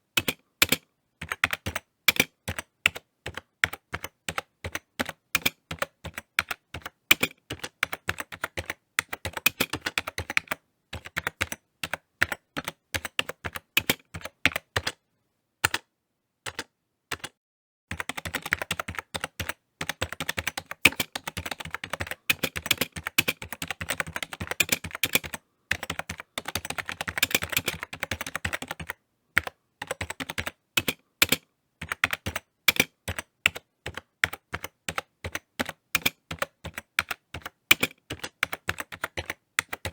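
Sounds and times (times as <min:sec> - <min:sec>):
typing on computer keyboard: 0:00.2 - 0:15.0, 0:15.6 - 0:15.9, 0:16.5 - 0:39.9.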